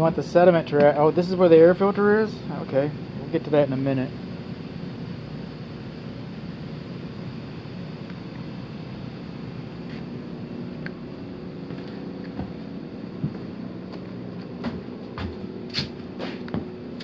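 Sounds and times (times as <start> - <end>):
air handler rushing hum: 0.0 - 17.0.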